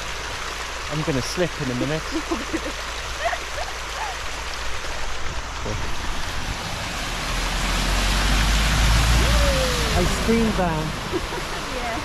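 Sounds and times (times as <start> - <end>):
truck engine rumbling: 0.0 - 12.0
tyres splashing through water: 0.0 - 12.0
water rushing across road: 0.0 - 12.0.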